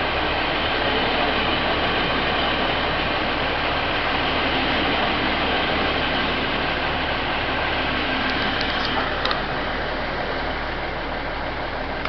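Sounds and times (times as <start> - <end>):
train coaches rolling past: 0.0 - 12.0.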